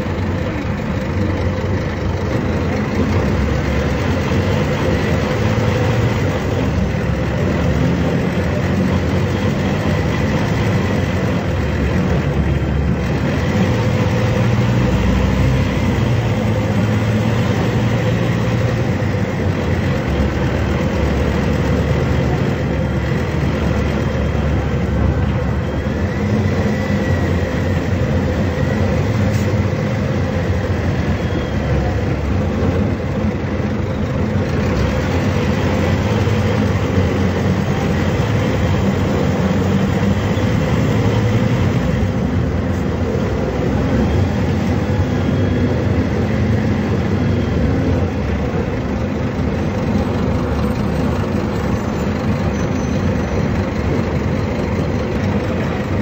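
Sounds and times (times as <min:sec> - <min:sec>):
bus engine running: 0:00.0 - 0:56.0
cabin and road noise: 0:00.0 - 0:56.0.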